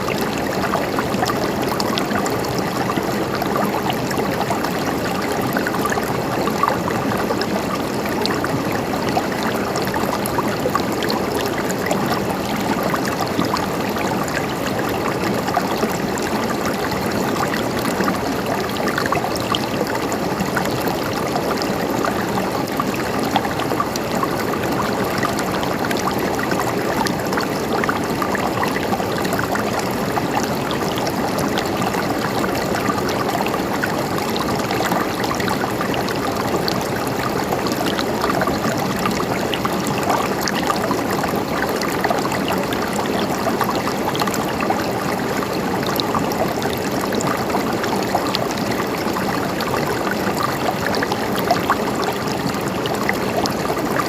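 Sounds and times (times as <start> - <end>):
stream gurgling over stones: 0.0 - 54.0.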